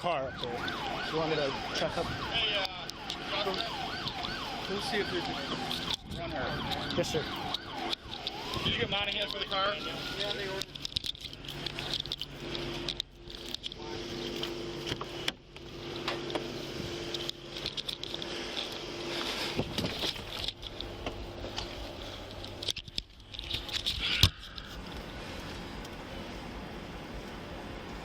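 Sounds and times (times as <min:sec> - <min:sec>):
gear rustling against camera: 0:00.3 - 0:28.0.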